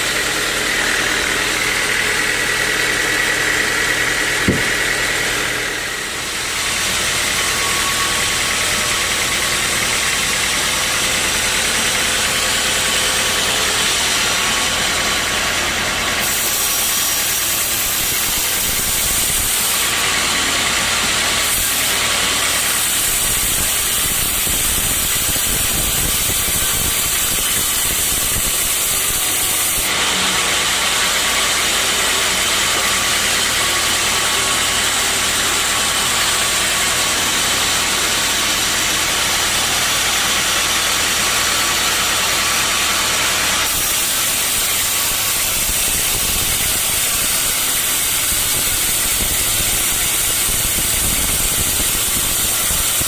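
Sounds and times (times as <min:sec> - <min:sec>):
saw blade cutting log: 0:00.0 - 0:53.0
sawmill saw humming: 0:00.0 - 0:53.0.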